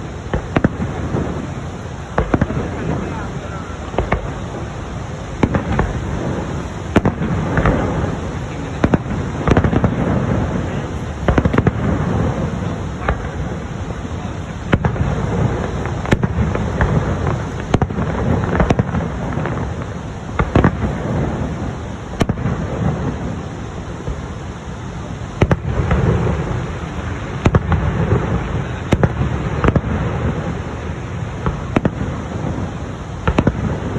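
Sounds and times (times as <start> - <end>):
continuous low rumble: 0.0 - 33.9
fireworks bangs: 0.0 - 33.9.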